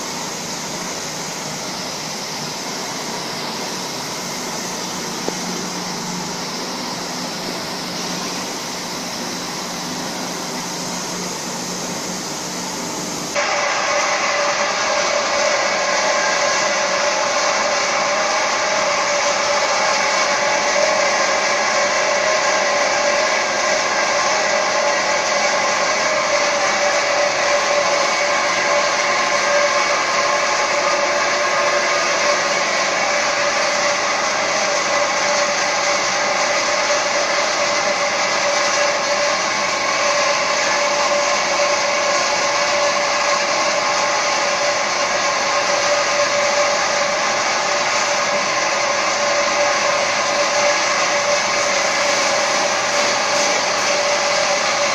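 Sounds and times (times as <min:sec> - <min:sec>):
machine whirring with hum: 0:00.0 - 0:54.9.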